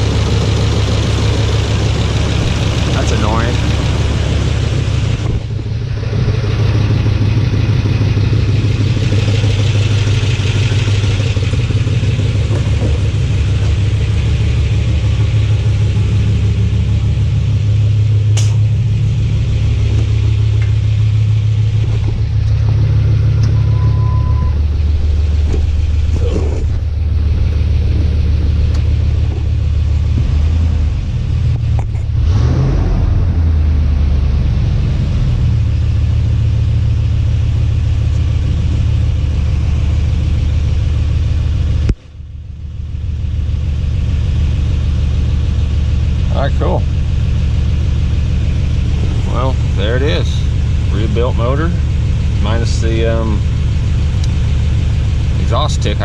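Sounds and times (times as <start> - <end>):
exhaust leak ticking: 0.0 - 23.6, 24.7 - 32.2, 35.6 - 56.0
engine idling: 0.0 - 56.0.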